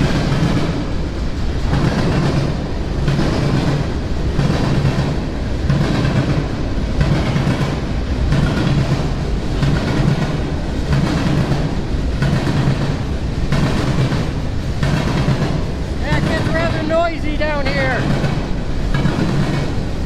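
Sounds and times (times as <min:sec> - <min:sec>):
freight train rolling past: 0:00.0 - 0:20.0
train wheels clicking on rails: 0:00.0 - 0:20.0.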